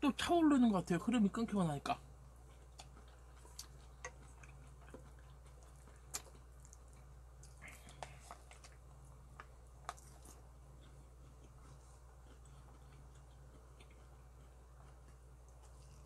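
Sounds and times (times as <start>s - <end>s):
low steady hum: 0.0s - 16.0s
soft chewing: 1.9s - 16.0s.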